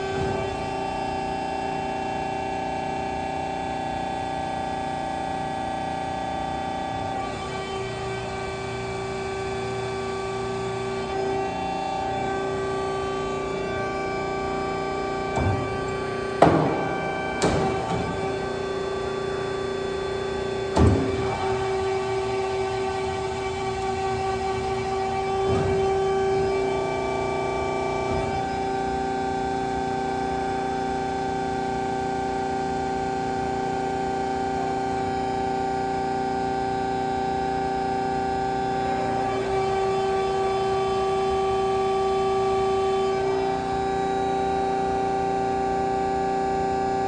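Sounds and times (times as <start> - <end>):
tube bending machine whine: 0.0 - 47.0.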